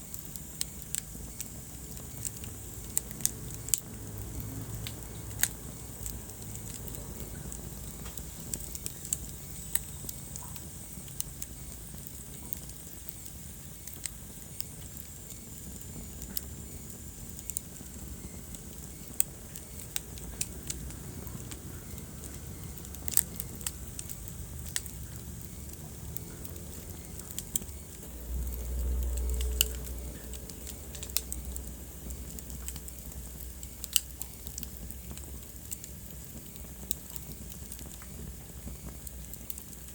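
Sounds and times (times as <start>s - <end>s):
low rumble of burning: 0.0s - 39.9s
wood fire popping and snapping: 0.0s - 39.9s.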